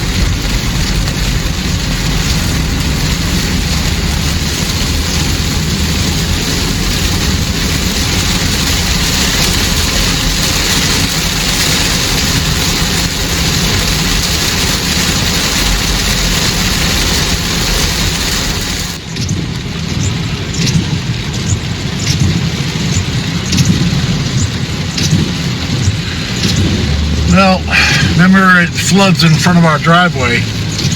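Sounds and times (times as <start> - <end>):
car engine and road rumble: 0.0 - 30.9
rain and tyres hissing on wet road: 0.0 - 30.9.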